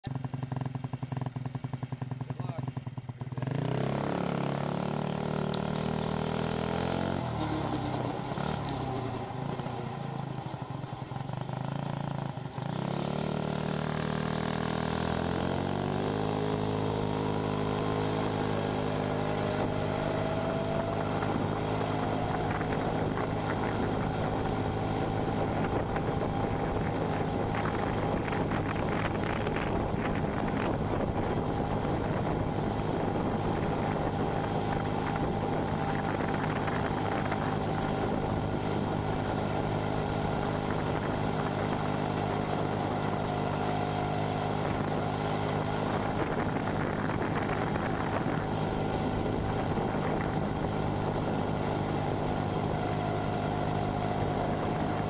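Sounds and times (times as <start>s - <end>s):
scooter engine accelerating: 0.0s - 55.0s
rising engine whine: 3.4s - 55.0s.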